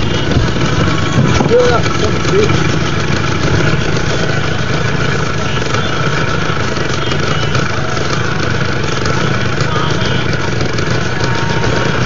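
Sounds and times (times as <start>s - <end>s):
motor idling: 0.0s - 12.0s.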